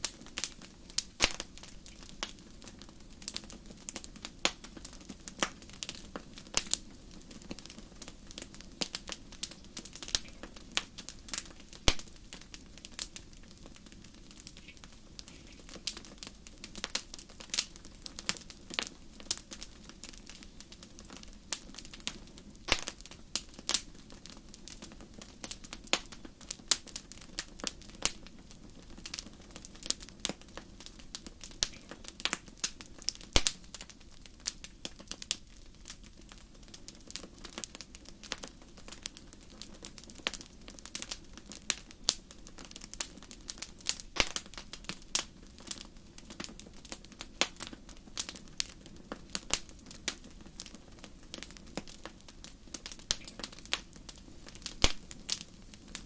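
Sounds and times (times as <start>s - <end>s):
fire pops and snaps: 0.0s - 56.0s
low rumble of burning: 0.0s - 56.0s.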